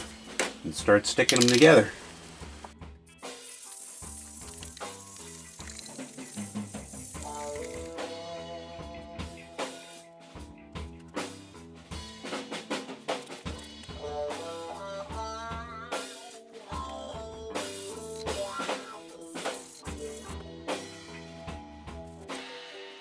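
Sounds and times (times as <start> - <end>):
background music with drum beat: 0.0 - 23.0.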